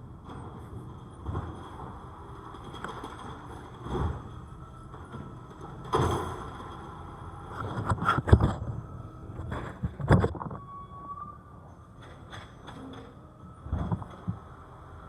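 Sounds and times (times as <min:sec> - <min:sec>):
garbage truck rumbling: 0:00.0 - 0:15.0.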